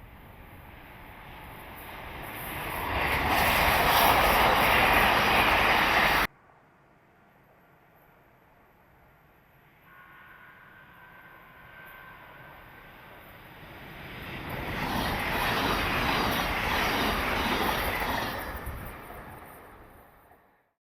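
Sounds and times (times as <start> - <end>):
train passing at speed: 0.0 - 20.7.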